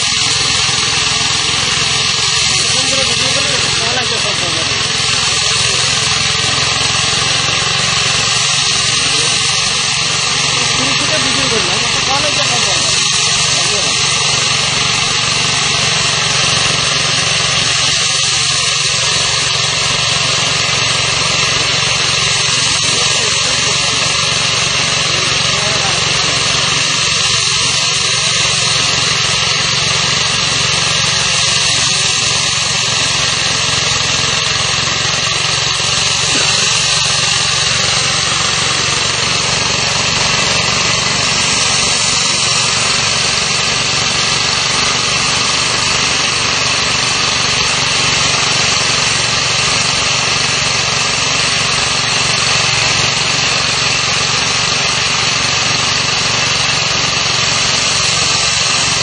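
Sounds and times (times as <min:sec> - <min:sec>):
core drill cutting concrete: 0:00.0 - 0:59.0.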